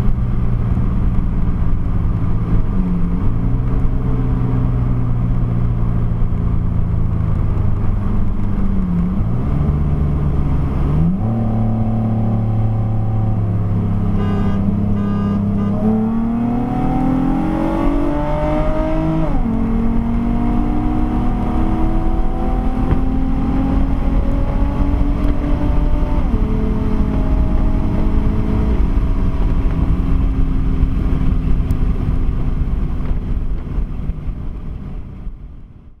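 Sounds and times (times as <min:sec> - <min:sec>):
car engine accelerating: 0:00.0 - 0:36.0
road and wind rumble: 0:00.0 - 0:36.0.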